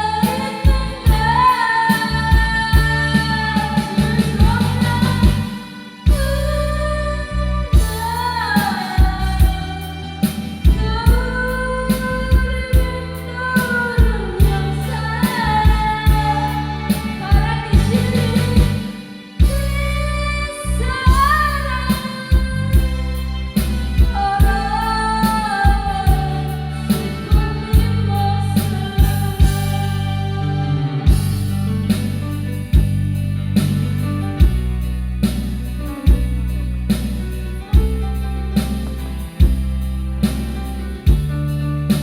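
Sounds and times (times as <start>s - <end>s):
song with singer bass and drums: 0.0s - 42.0s.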